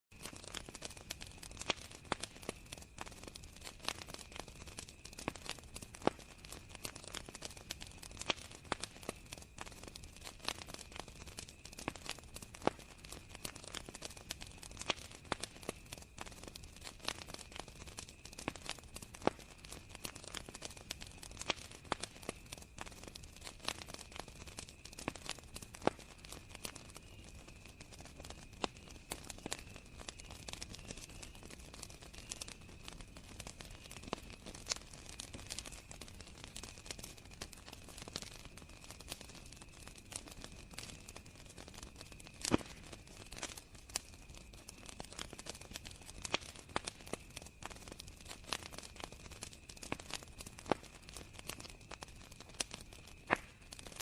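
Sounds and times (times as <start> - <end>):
wood fire crackling and popping: 0.1 - 54.0
crickets trilling: 0.2 - 54.0.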